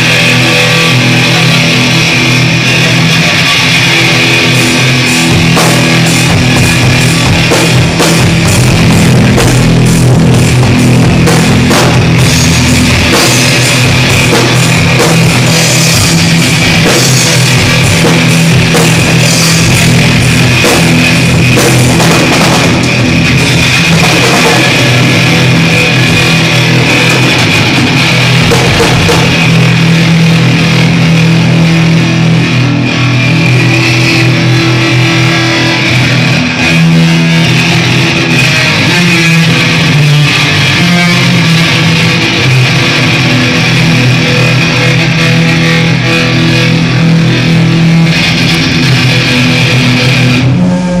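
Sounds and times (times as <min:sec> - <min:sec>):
amplified electric guitar and bass: 0:00.0 - 0:51.0.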